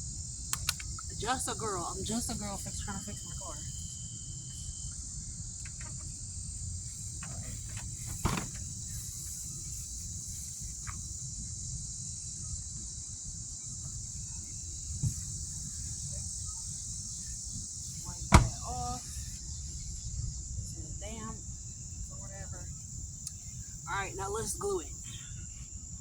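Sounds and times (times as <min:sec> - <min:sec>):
insect chorus: 0:00.0 - 0:26.0
low background rumble: 0:00.0 - 0:26.0.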